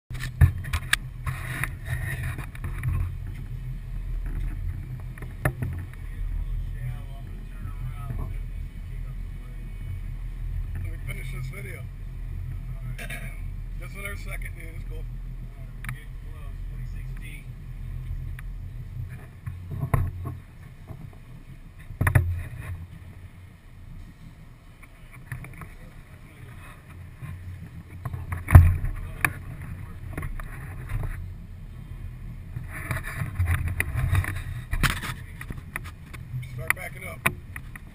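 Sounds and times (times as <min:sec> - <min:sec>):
hull slapping waves: 0:00.1 - 0:37.9
powerboat engine rumble: 0:00.1 - 0:37.9.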